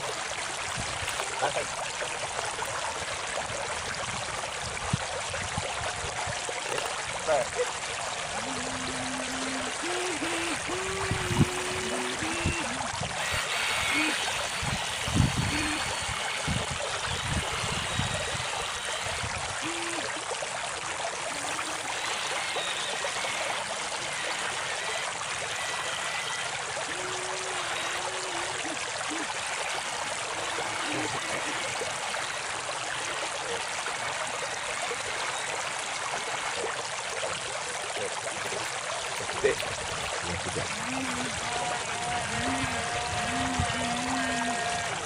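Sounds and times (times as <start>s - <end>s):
river water flowing: 0.0s - 45.0s.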